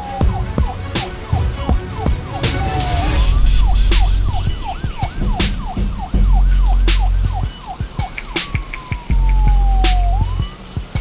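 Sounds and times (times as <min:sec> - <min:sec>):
deep rumble: 0:00.0 - 0:08.0, 0:09.1 - 0:10.5
emergency siren yelping: 0:00.0 - 0:10.6.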